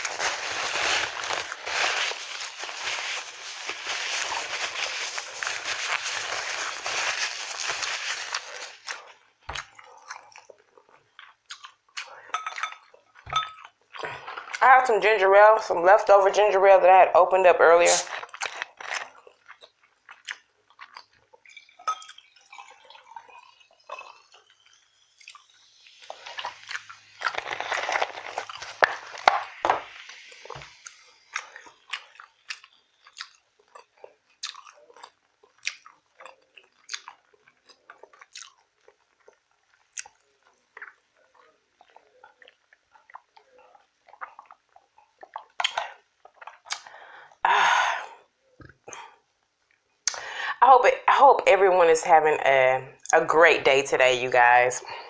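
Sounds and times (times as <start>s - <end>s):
person chewing food: 0.0s - 14.6s, 17.9s - 47.4s.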